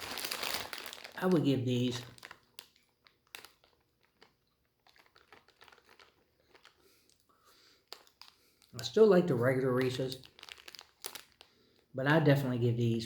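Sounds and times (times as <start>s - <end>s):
plastic wrapper crinkling: 0.0s - 11.9s.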